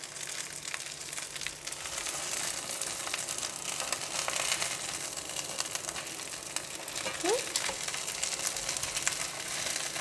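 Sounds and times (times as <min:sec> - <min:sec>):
fish oil sizzling in a pan: 0:00.0 - 0:10.0.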